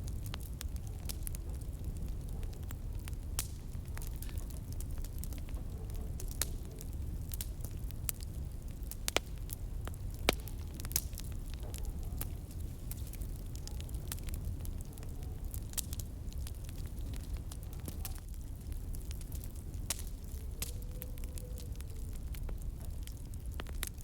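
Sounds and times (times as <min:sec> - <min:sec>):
wood fire burning: 0:00.0 - 0:24.0.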